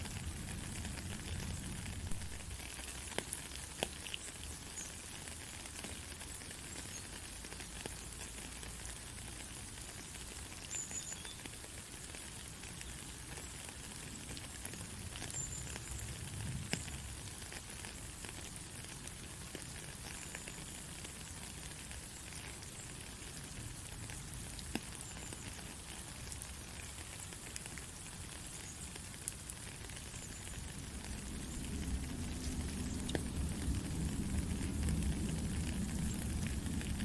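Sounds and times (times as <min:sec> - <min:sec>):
raindrops ticking close by: 0:00.0 - 0:37.0
steady rain falling: 0:00.0 - 0:37.0.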